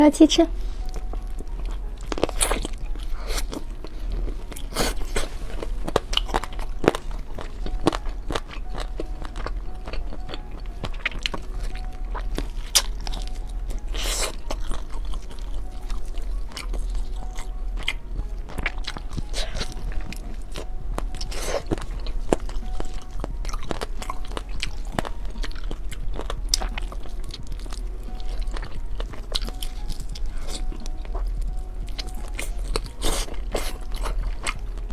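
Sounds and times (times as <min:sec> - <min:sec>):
chewing crunchy food: 0:00.5 - 0:34.9.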